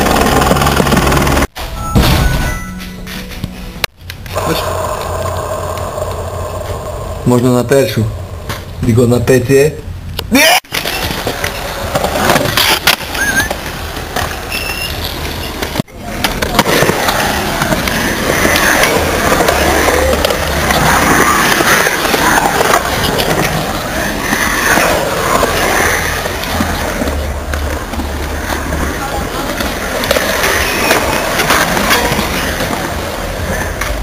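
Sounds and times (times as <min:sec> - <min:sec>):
skateboard wheels rolling on concrete: 0:00.0 - 0:01.9, 0:03.0 - 0:34.0.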